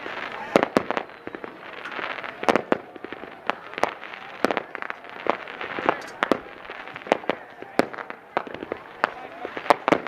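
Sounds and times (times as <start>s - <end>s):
continuous haze of noise: 0.0s - 10.0s
fireworks bangs and pops: 0.0s - 10.0s.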